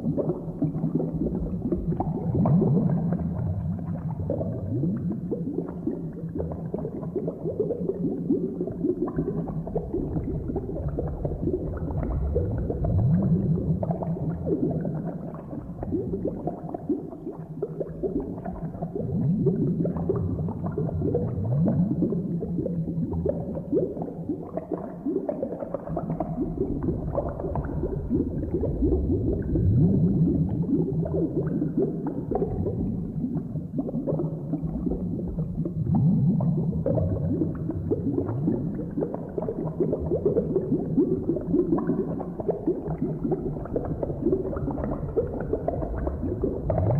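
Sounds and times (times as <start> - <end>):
thick liquid bubbling: 0.0 - 46.9.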